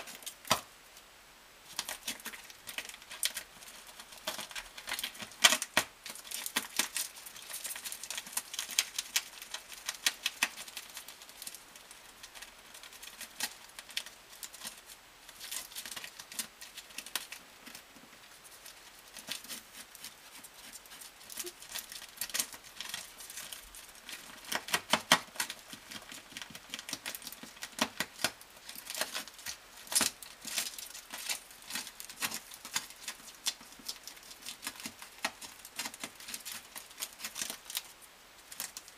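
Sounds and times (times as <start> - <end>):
squirrel gnawing tape: 1.7 - 38.9.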